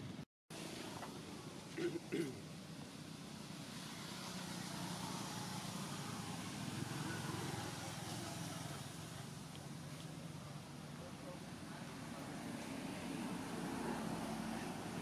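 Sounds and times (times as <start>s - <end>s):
vehicle engine hum passing: 0.6s - 15.0s.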